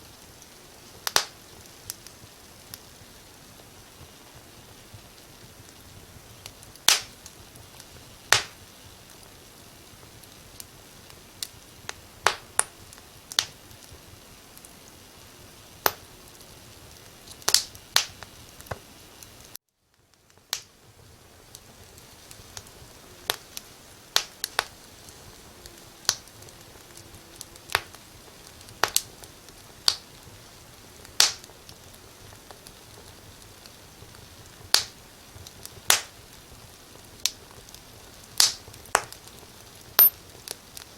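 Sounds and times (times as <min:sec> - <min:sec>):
firewood crackling and popping: 0:00.0 - 0:40.9
soft steady fire hiss: 0:00.0 - 0:40.9.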